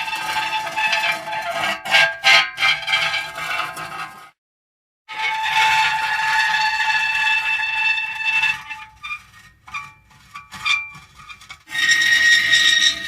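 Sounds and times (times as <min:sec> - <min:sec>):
metal creaking and squealing: 0:00.0 - 0:04.3, 0:05.1 - 0:13.0.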